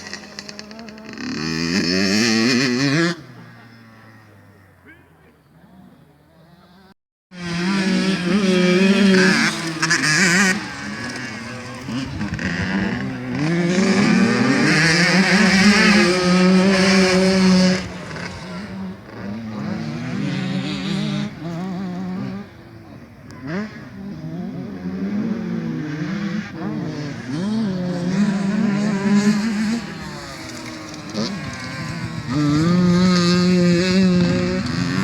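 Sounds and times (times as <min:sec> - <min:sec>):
motocross bike engines revving: 0:00.0 - 0:35.0.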